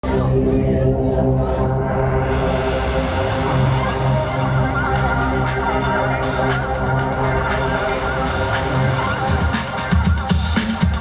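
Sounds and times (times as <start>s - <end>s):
electronic dance-pop music: 0.0s - 11.0s
steady bass beat: 0.0s - 11.0s.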